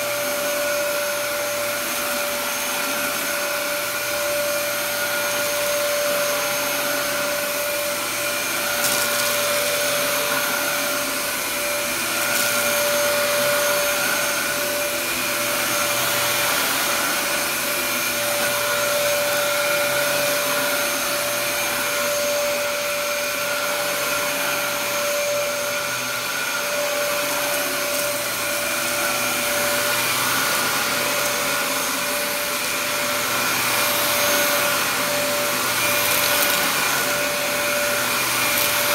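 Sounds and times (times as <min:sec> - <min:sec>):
vacuum cleaner running on carpet: 0:00.0 - 0:38.9.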